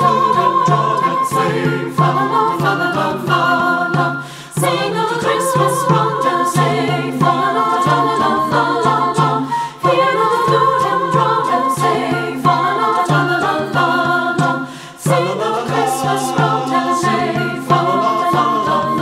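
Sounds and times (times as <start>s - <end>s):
flute line: 0.0s - 19.0s
hand drum strokes: 0.0s - 19.0s
mixed choir singing: 0.0s - 19.0s.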